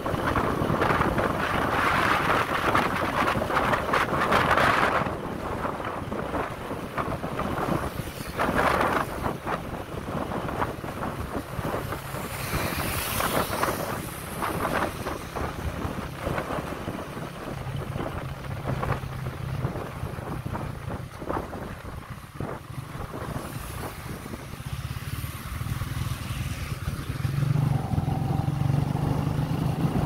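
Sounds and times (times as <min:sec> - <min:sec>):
motorbike engine and road noise: 0:00.0 - 0:30.0
wind buffeting microphone: 0:00.0 - 0:30.0.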